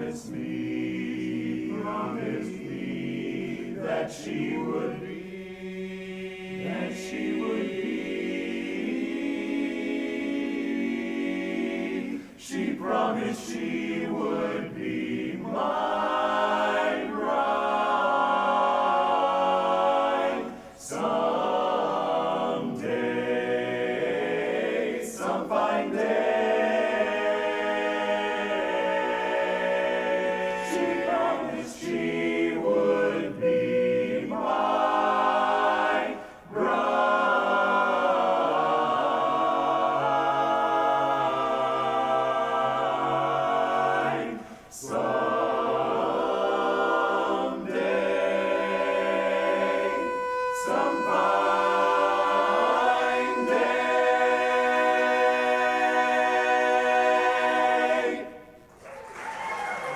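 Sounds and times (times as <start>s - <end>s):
men's a cappella chorus singing: 0.0s - 58.7s.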